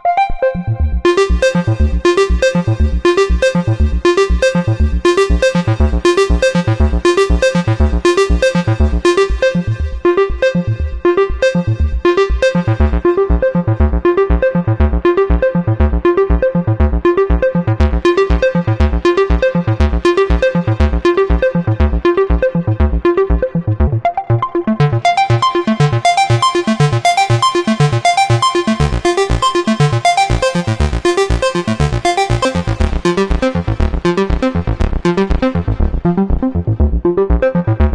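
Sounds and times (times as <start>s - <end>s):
synthesizer bass sequence: 0.0s - 37.9s.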